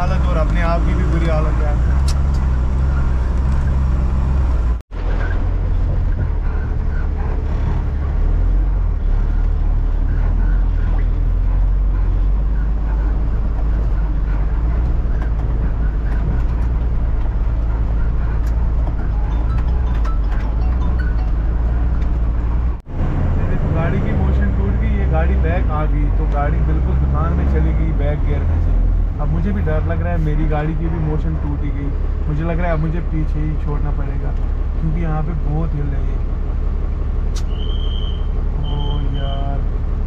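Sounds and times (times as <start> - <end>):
truck diesel engine droning: 0.0 - 40.0.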